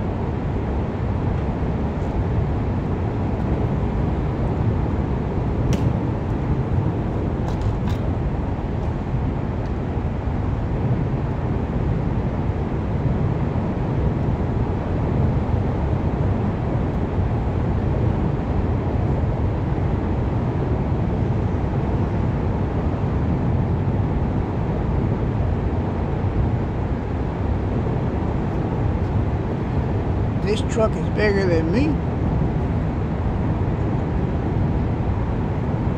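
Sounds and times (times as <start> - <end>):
outdoor background rumble: 0.0 - 35.9.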